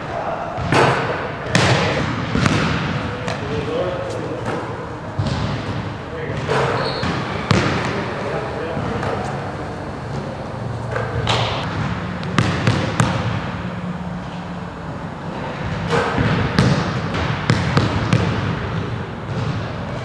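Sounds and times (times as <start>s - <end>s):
steady low hum: 1.9s - 20.0s.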